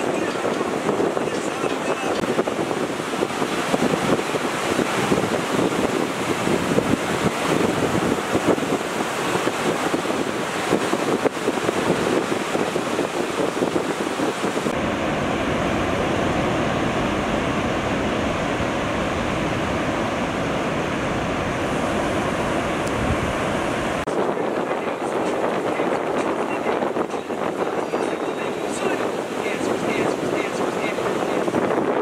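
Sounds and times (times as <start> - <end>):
ocean surf breaking: 0.0 - 32.0
wind on microphone: 0.0 - 32.0.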